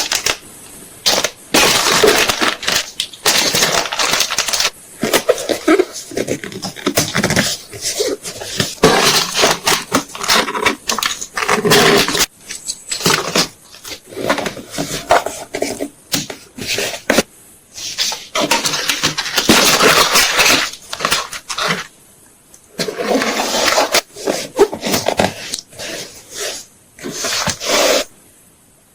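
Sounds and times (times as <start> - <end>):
packing materials rustling: 0.0 - 17.2, 17.8 - 21.9, 22.7 - 28.1.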